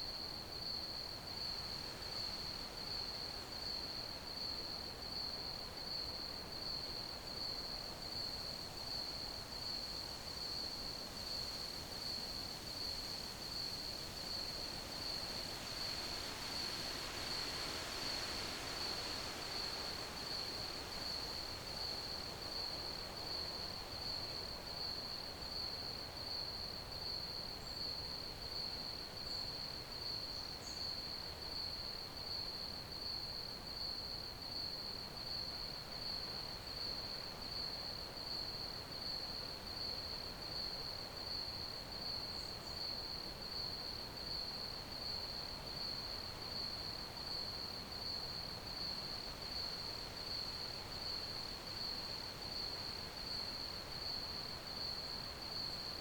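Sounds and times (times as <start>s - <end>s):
faint background hiss: 0.0s - 56.0s
crickets chirping: 9.8s - 56.0s.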